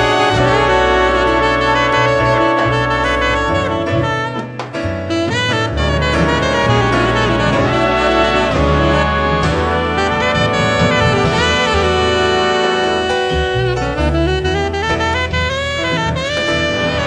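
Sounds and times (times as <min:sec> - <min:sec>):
drum kit and bass: 0:00.0 - 0:17.0
saxophone melody: 0:00.0 - 0:17.0.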